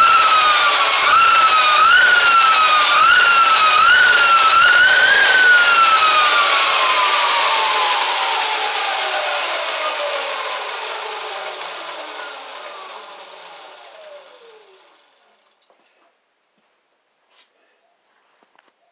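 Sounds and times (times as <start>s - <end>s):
electric motor whine: 0.0s - 15.2s.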